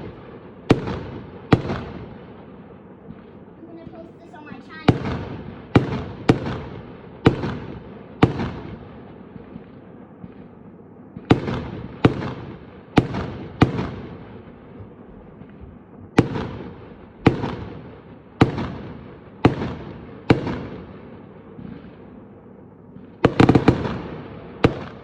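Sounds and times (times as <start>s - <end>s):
fireworks exploding: 0.0s - 25.0s.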